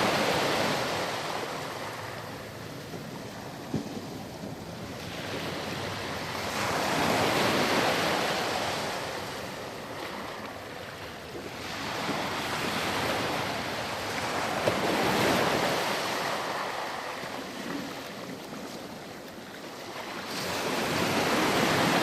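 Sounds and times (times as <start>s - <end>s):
surf washing onto sand beach: 0.0s - 22.0s.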